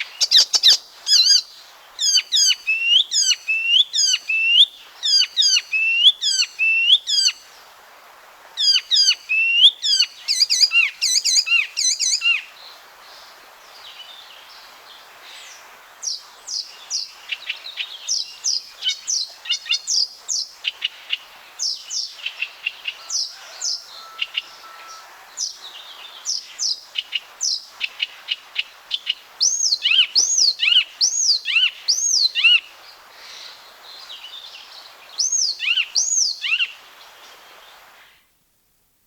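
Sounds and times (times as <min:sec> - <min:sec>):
warbler song: 0:00.0 - 0:07.6, 0:08.6 - 0:38.2.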